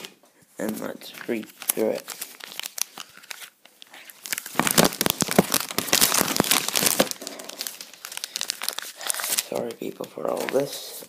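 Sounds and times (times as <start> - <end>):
plastic wrapping crinkling: 1.0 - 11.0.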